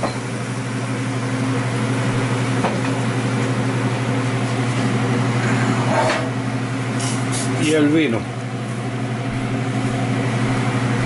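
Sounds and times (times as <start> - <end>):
electric motor hum: 0.0 - 11.0.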